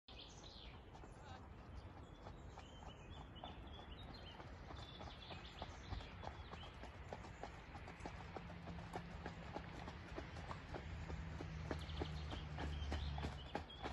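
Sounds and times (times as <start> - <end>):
birds chirping: 0.1 - 13.9
hoofbeats on gravel: 0.1 - 13.9.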